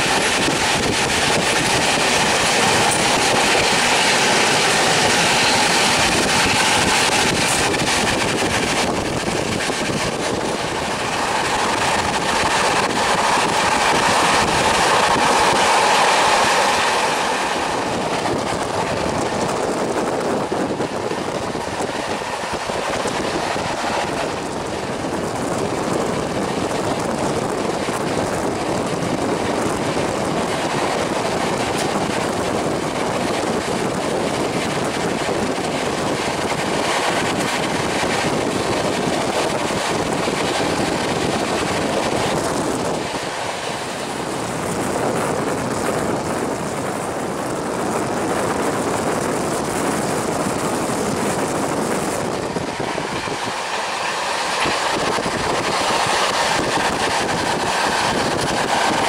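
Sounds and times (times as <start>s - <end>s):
train wheels on rails: 0.0s - 59.0s
wind rushing: 0.0s - 59.0s.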